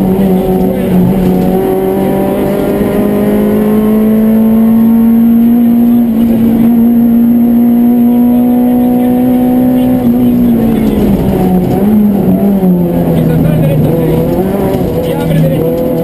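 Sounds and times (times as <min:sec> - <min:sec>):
car engine revs climbing: 0:00.0 - 0:16.0.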